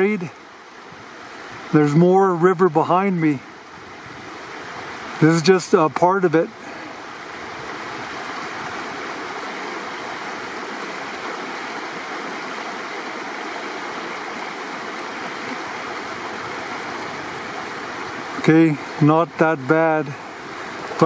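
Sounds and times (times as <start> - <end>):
river water rushing over gravel: 0.0 - 21.0.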